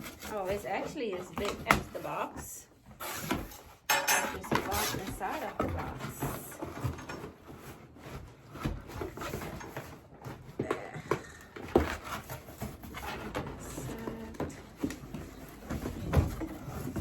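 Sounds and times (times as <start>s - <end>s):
cardboard boxes being handled: 0.0s - 17.0s.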